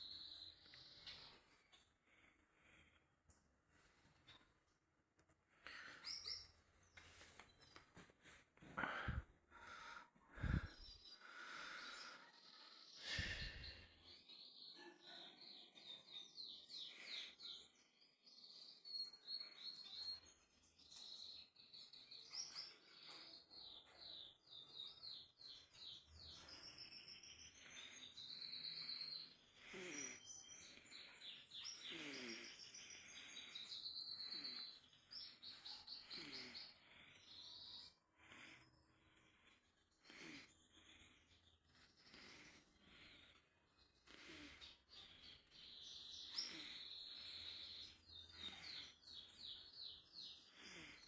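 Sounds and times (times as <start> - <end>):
small bird chirping and twittering: 0.0 - 2.0, 5.7 - 8.0, 10.4 - 51.0.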